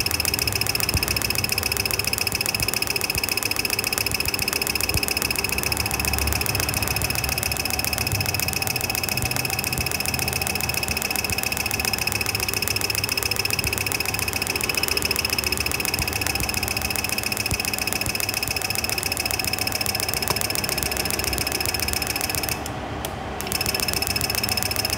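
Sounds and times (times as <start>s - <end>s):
fast mechanical ticking: 0.0s - 24.9s.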